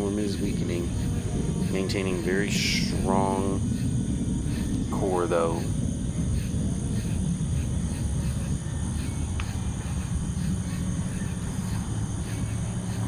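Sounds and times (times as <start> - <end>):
insects chirping: 0.0 - 13.0
low rumble: 0.0 - 13.0.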